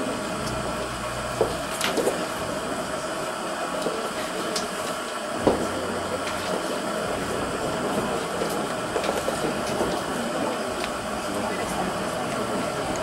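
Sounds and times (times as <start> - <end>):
hall hum: 0.0 - 13.0.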